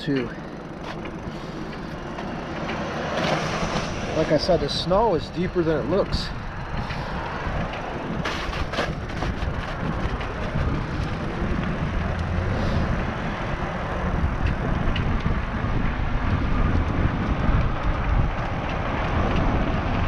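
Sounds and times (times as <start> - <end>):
tyres churning through snow: 0.0 - 20.0
wind noise on microphone: 1.2 - 20.0.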